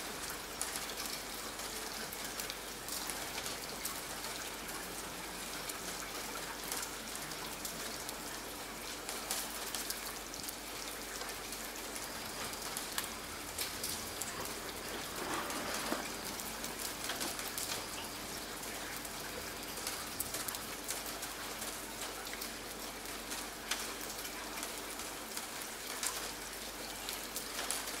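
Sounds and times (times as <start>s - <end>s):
light rain falling: 0.0s - 28.0s
raindrops striking close by: 0.0s - 28.0s.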